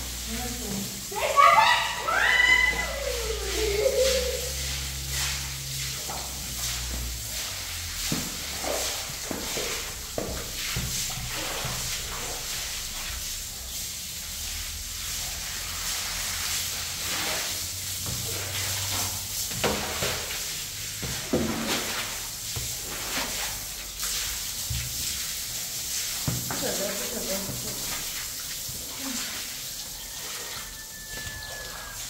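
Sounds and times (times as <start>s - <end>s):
broom sweeping wet floor: 0.0s - 32.0s
hose water splashing on tiles: 0.0s - 32.0s.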